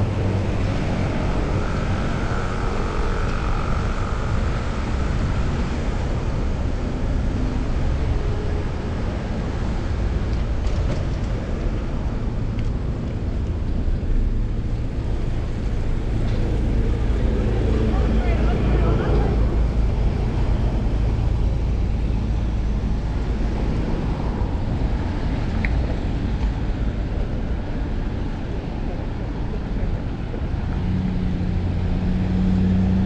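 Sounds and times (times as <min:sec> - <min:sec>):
wind rumble: 0:00.0 - 0:33.0.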